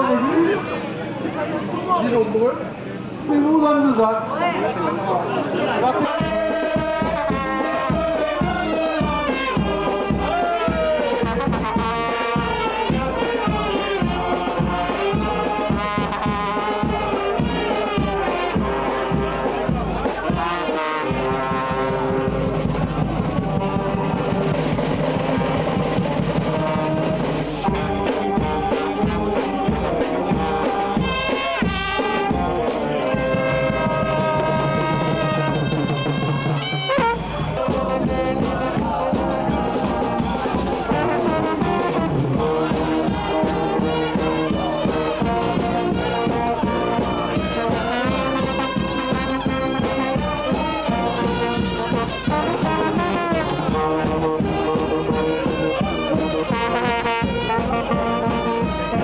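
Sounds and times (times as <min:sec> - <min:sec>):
drums steady beat: 0:06.0 - 0:59.0
trumpets and trombones: 0:06.0 - 0:59.0.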